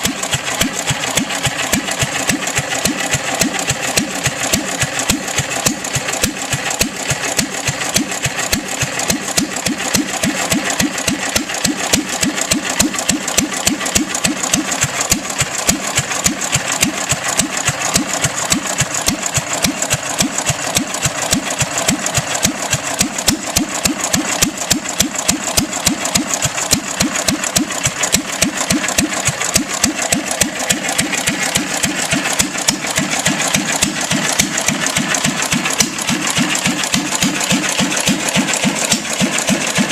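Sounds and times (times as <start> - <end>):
single-cylinder gas engine running: 0.0 - 39.9.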